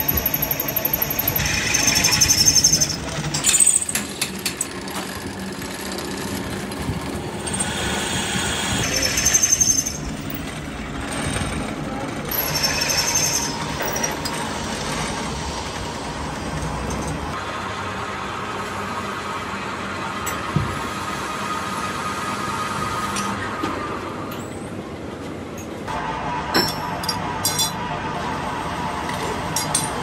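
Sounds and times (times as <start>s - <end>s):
workshop machinery motor hum: 0.0s - 30.0s.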